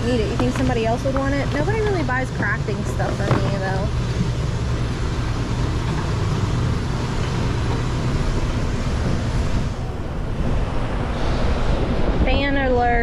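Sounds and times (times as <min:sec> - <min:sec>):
floor fan blowing: 0:00.0 - 0:13.0.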